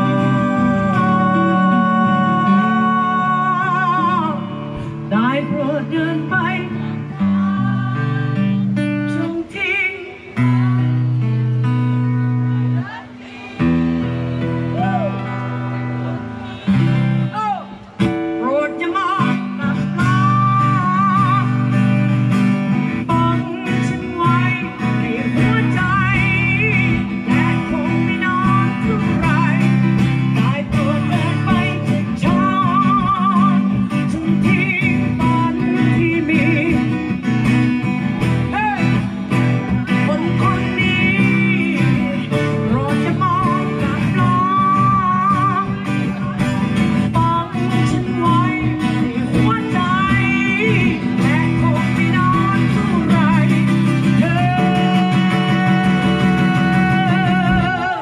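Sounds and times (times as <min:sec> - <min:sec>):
strummed acoustic guitars: 0:00.0 - 0:58.0.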